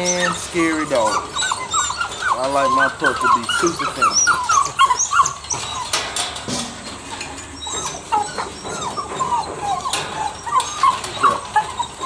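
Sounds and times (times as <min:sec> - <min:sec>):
puppies whining and yipping: 0:00.0 - 0:12.0.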